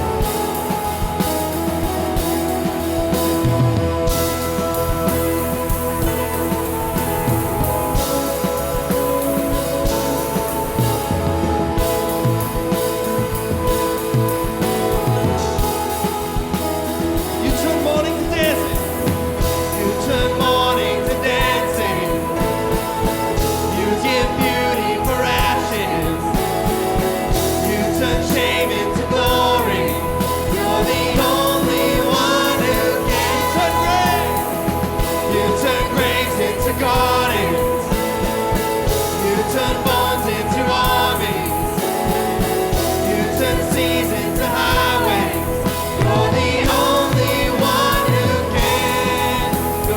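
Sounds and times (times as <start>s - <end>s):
live band playing: 0.0s - 49.9s
people singing: 0.0s - 49.9s.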